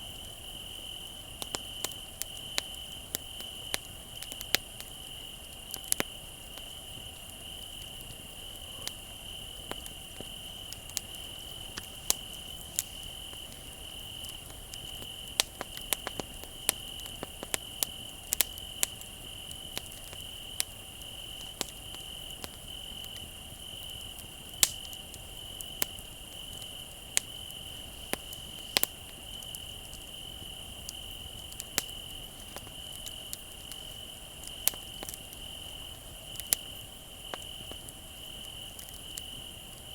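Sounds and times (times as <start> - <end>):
crickets trilling: 0.0 - 39.9
wood fire crackling and popping: 0.0 - 39.9.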